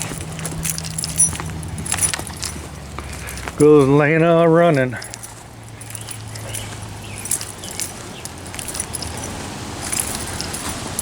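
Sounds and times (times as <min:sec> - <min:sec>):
light jingling: 0:00.0 - 0:11.0
outdoor background noise: 0:00.0 - 0:11.0.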